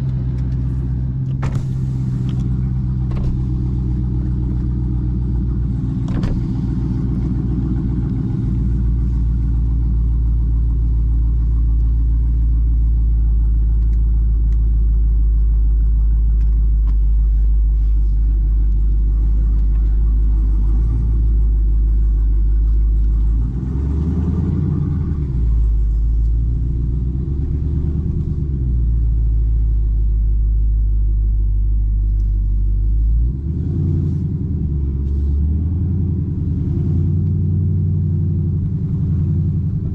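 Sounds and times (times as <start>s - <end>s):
car engine running while driving: 0.0s - 39.9s.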